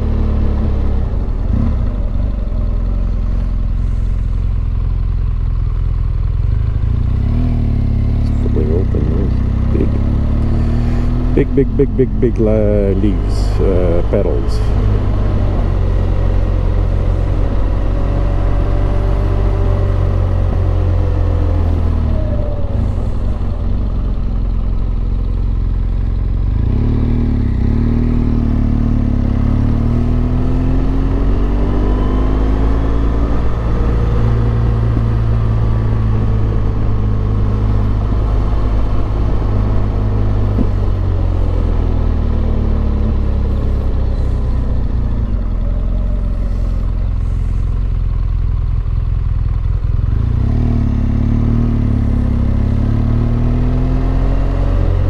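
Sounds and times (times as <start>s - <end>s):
motorcycle engine running: 0.0s - 31.7s, 32.3s - 53.9s.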